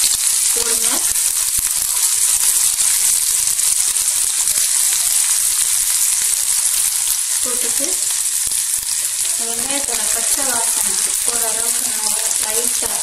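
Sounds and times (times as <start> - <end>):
shallots sizzling in oil: 0.0 - 13.0.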